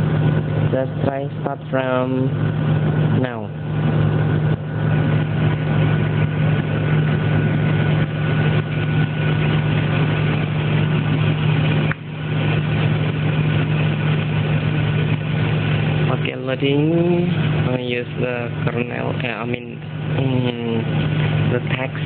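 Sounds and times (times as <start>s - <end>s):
machinery droning hum: 0.0s - 22.0s.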